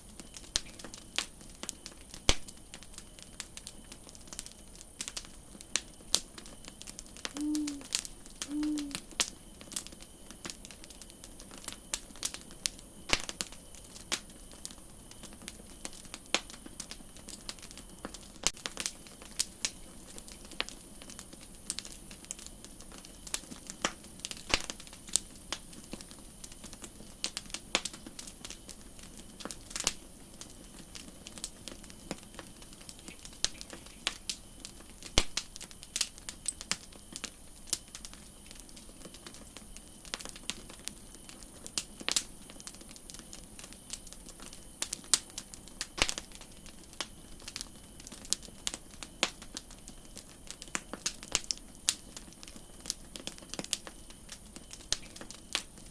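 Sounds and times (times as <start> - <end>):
campfire crackling and popping: 0.0 - 55.9
fire low hiss: 0.0 - 55.9.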